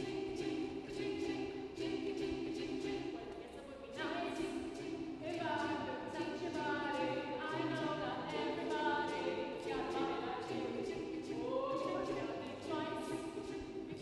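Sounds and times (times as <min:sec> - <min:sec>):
a cappella choir singing: 0:00.0 - 0:14.0.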